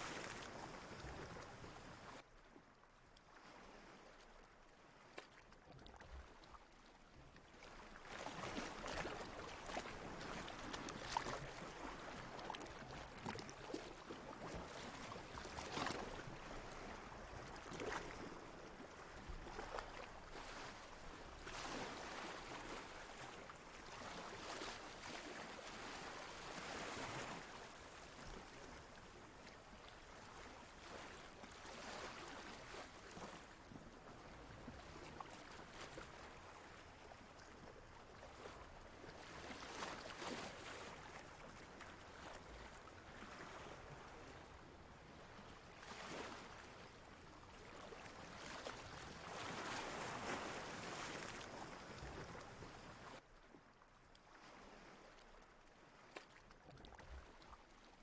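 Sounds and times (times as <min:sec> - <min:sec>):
ocean water lapping: 0:00.0 - 0:58.0.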